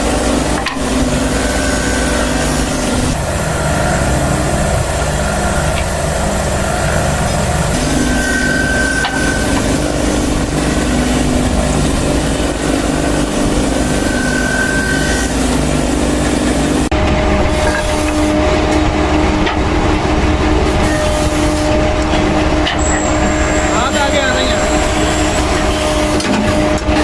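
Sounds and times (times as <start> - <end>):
wood being cut: 0.0 - 27.0
woodworking machine motor hum: 0.0 - 27.0.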